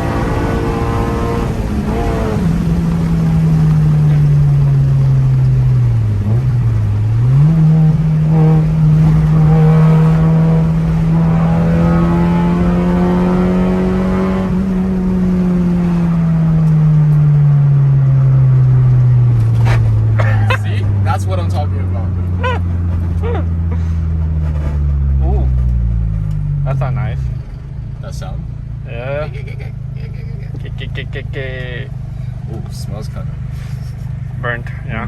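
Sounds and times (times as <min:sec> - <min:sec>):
car engine from inside cabin: 0:00.0 - 0:35.0.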